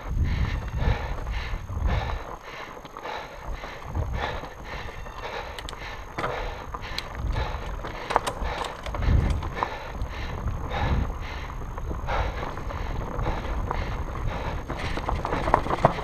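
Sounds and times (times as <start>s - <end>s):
wind buffeting microphone: 0.0s - 16.0s
bike chain rattling and clicking: 1.9s - 16.0s.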